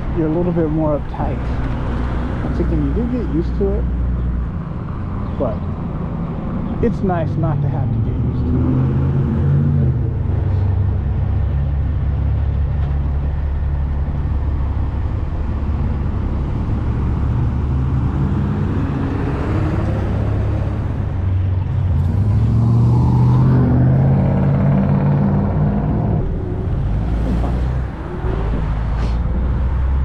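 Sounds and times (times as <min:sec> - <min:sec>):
tyre and road noise: 0:00.0 - 0:30.0.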